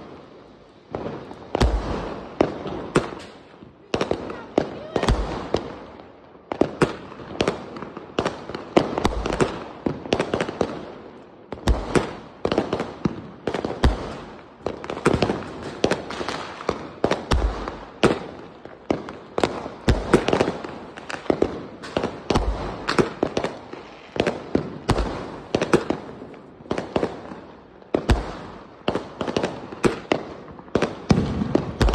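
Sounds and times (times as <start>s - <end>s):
fireworks bangs: 0.0s - 31.9s
fireworks crackling: 0.0s - 31.9s.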